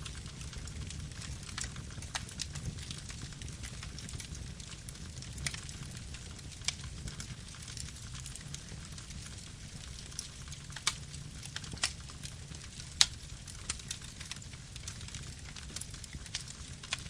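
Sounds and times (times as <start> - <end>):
campfire rumble: 0.0 - 17.0
fire crackling and popping: 0.0 - 17.0.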